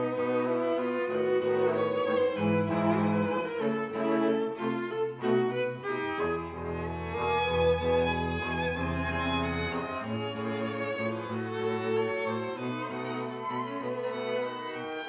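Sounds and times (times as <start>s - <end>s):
string quartet playing: 0.0s - 15.0s.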